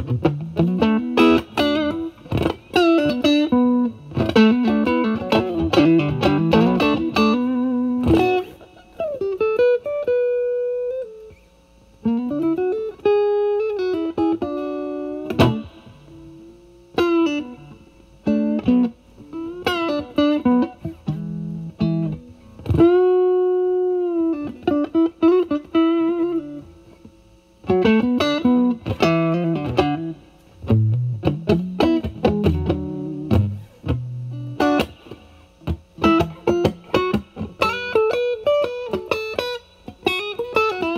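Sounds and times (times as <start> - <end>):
overdriven electric guitar lead: 0.0 - 40.9.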